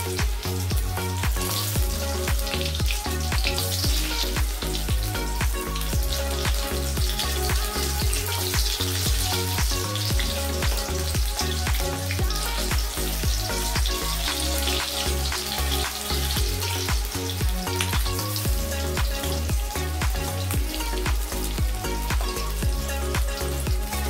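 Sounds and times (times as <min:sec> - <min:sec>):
background music with beat: 0:00.0 - 0:24.0
food deep-frying in oil: 0:00.0 - 0:24.0.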